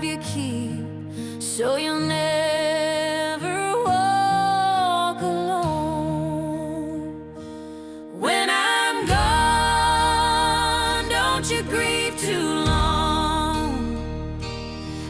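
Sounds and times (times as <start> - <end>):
person singing slow song: 0.0 - 15.0.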